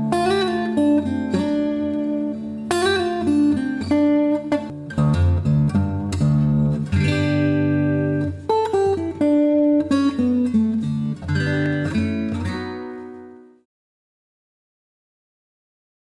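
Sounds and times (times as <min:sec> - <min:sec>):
acoustic guitar plucked notes and chords: 0:00.0 - 0:13.7.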